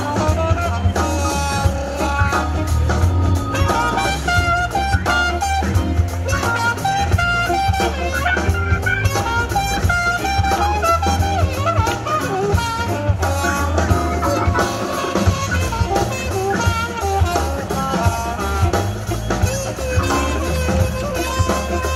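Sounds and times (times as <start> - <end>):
jazz-funk band playing: 0.0 - 21.9
trumpet solo: 0.0 - 21.9.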